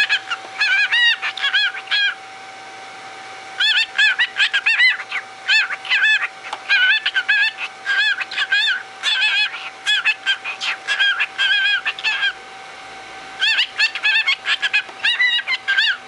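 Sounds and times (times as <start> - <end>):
cockatiel chattering: 0.0 - 2.2, 3.6 - 12.4, 13.4 - 16.0.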